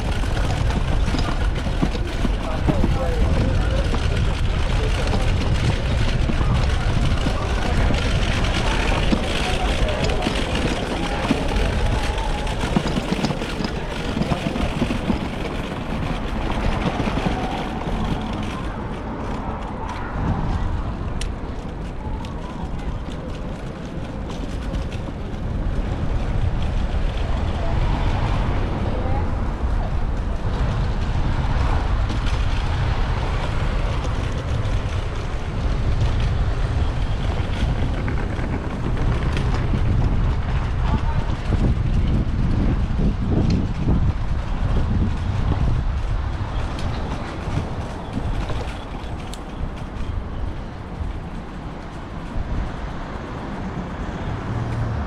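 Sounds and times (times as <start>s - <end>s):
road and traffic noise: 0.0s - 55.0s
wind buffeting microphone: 0.0s - 55.0s.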